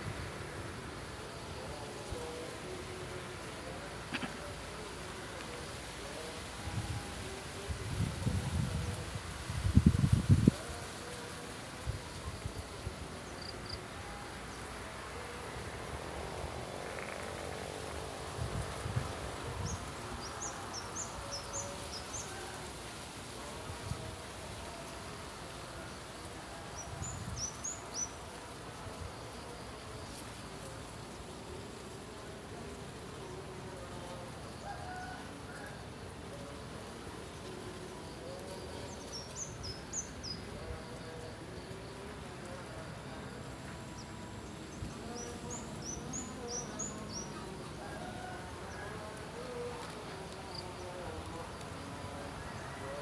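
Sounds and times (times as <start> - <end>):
background hiss: 0.0 - 53.0.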